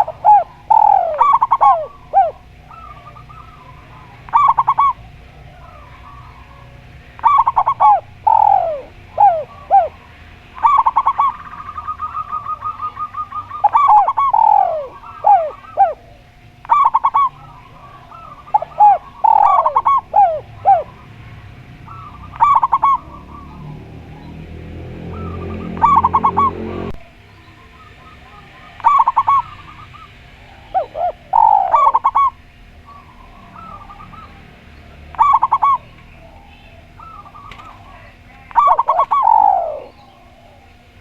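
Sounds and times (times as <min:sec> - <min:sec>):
dove rolling trill: 0:00.0 - 0:41.0
doves cooing: 0:00.0 - 0:41.0.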